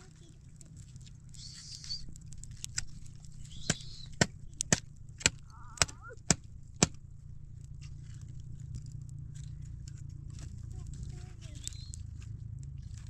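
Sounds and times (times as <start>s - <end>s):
dry wood cracking: 0.0s - 13.0s.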